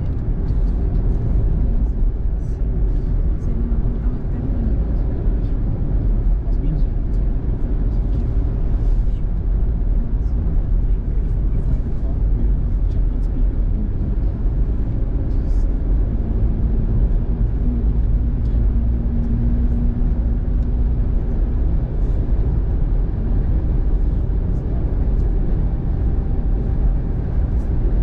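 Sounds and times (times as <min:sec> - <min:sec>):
car road noise on wet road: 0:00.0 - 0:28.0.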